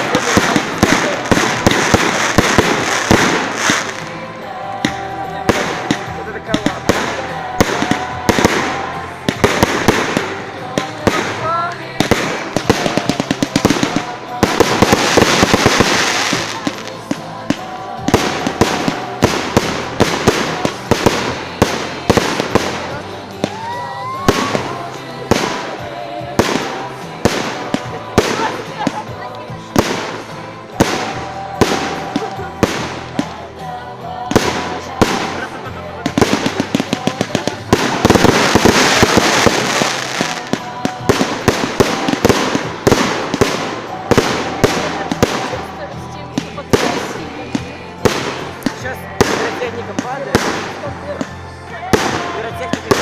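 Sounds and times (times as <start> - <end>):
fireworks bangs: 0.0 - 53.0
fireworks crackle: 0.0 - 53.0.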